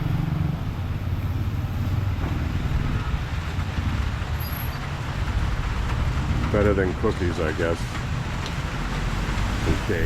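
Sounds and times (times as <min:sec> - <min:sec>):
roadside traffic hiss: 0:00.0 - 0:10.0
vehicle engine rumbling: 0:00.0 - 0:10.0.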